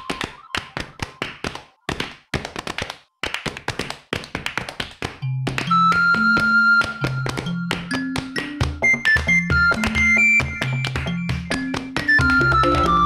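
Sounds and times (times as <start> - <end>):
sharp percussive taps: 0.0 - 13.0.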